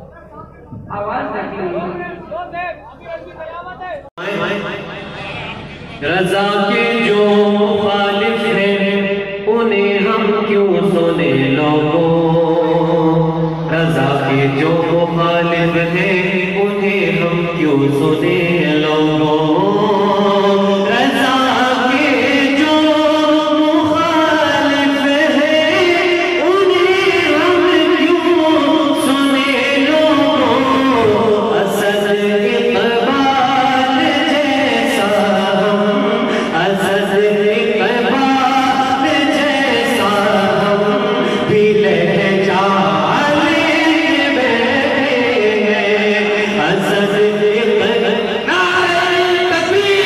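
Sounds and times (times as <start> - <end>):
man singing devotional song: 4.2 - 50.0.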